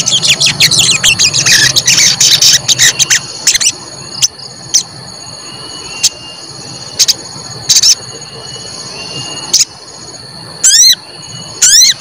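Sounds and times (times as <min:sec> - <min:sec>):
bird chirping: 0:00.0 - 0:12.0
steady high whine: 0:00.0 - 0:12.0.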